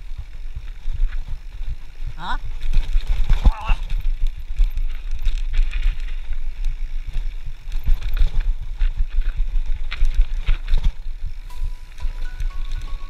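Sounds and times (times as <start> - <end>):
bike chain and frame rattling: 0.0 - 13.0.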